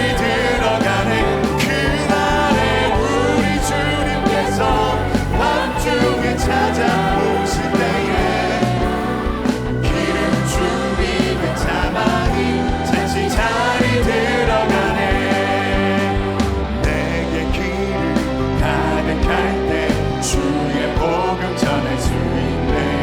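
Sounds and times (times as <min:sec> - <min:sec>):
people singing: 0:00.0 - 0:23.0
praise band playing: 0:00.0 - 0:23.0.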